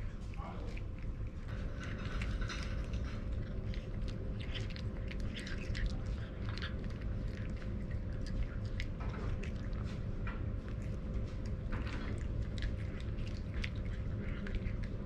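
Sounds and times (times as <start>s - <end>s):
cats crunching dry kibble: 0.0s - 15.0s.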